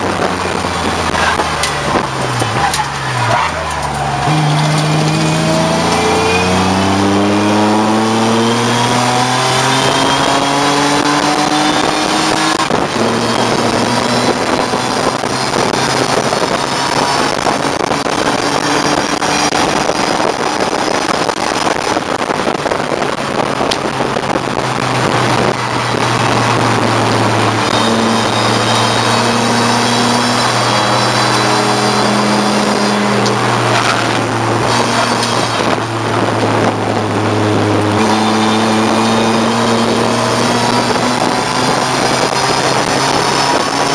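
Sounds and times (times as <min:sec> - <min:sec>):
race car engine accelerating: 0:00.0 - 0:43.9
wind and tyre noise: 0:00.0 - 0:43.9.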